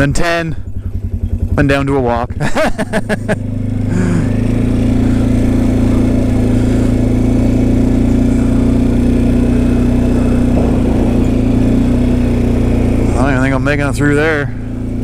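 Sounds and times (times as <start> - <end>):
atv engine humming: 0.0 - 15.0.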